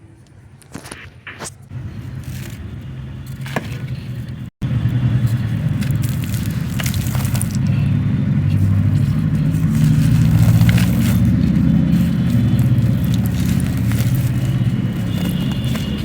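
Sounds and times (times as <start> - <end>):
dry clay crumbling by hand: 1.7 - 16.0
steady low rumble: 1.7 - 16.0.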